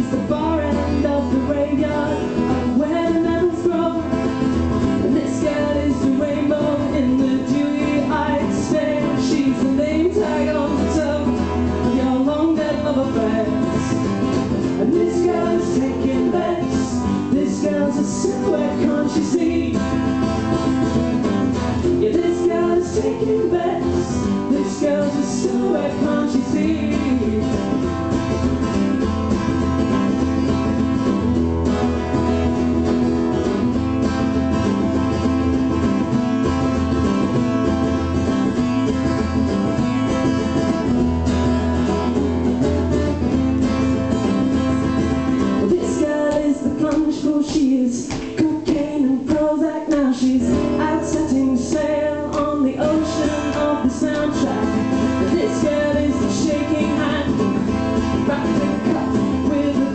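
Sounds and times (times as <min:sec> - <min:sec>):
live instrumental music with guitar: 0:00.0 - 0:59.9.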